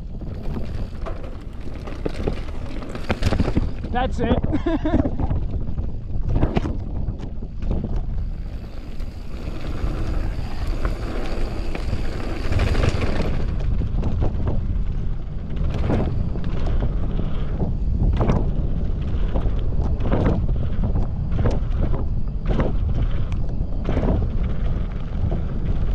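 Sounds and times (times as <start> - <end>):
bike knocking and clattering: 0.0 - 25.9
tyres rumbling on dirt: 0.0 - 25.9
wind buffeting microphone: 0.0 - 25.9.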